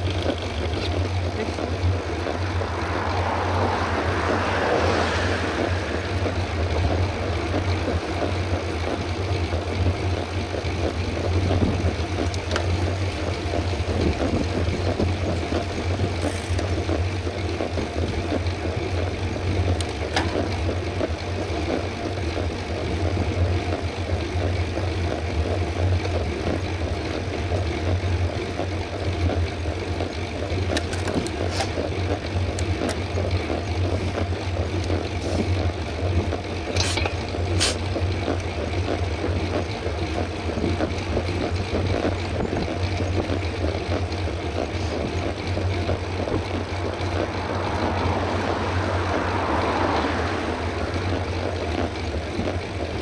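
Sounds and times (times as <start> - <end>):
wind rush on microphone: 0.0 - 24.2, 30.5 - 53.0
deep constant rumble: 0.0 - 53.0
tyre noise on paved road: 0.0 - 53.0.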